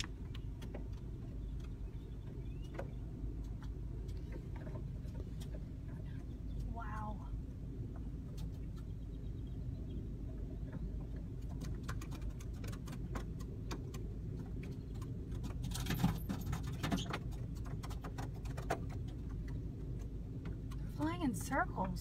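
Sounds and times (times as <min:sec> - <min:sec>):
sharp clicks and ticks: 0:00.0 - 0:09.1, 0:10.7 - 0:22.0
car cabin rumble: 0:00.0 - 0:22.0.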